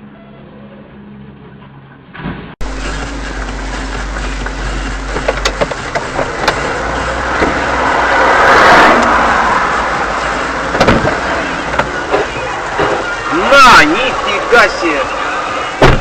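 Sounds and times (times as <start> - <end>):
moving car engine and tyres: 0.0 - 16.0.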